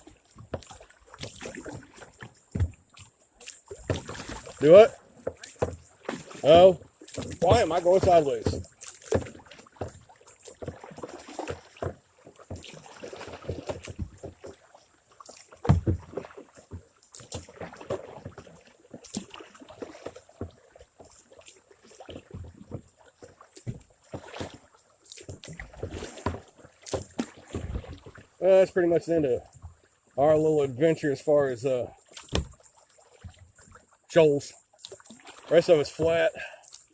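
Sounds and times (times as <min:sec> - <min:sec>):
kayak knocks and thumps: 0:00.0 - 0:31.0, 0:31.8 - 0:36.9
paddle strokes splashing water: 0:00.0 - 0:36.9.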